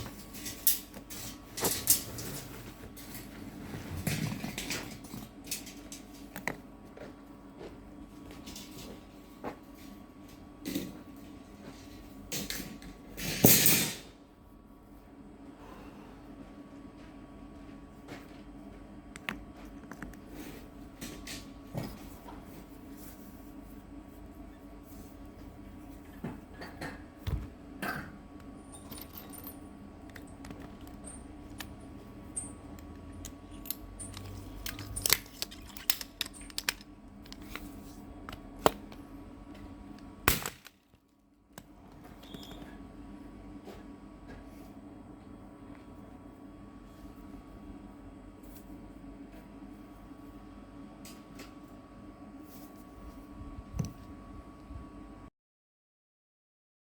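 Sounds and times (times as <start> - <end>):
steady low hum: 0.0 - 55.3.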